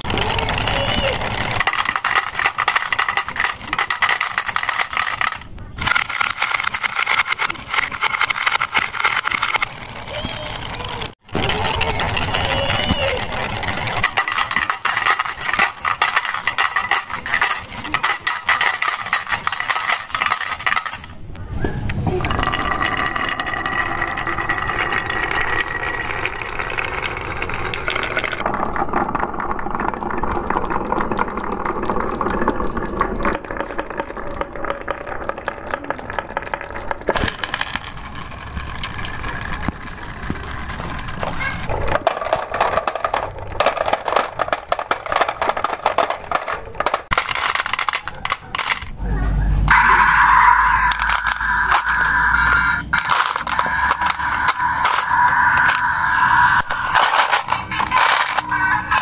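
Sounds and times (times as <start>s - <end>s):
marbles clattering on wooden track: 0.0s - 49.0s, 49.7s - 59.0s.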